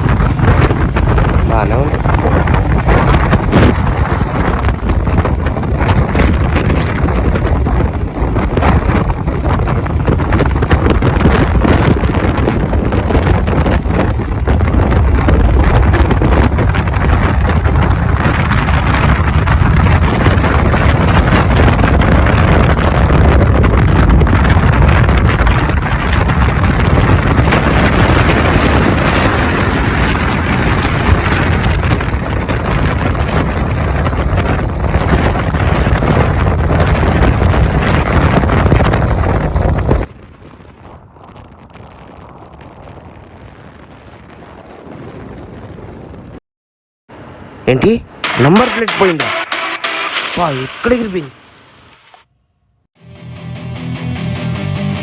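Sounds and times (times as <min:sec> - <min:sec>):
motorcycle engine: 0:00.0 - 0:40.1, 0:48.1 - 0:55.0
road noise: 0:00.0 - 0:43.1, 0:47.1 - 0:52.3
wind rushing over microphone: 0:00.0 - 0:46.4.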